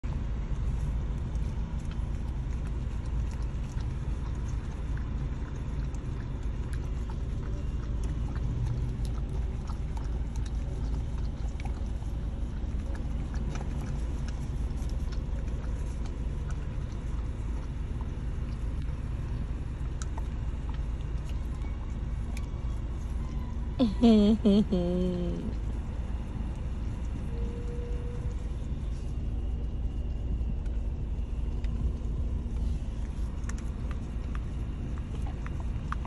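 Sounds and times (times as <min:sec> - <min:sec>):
low car rumble: 0:00.0 - 0:36.0
dog licking: 0:00.7 - 0:23.2, 0:28.2 - 0:36.0.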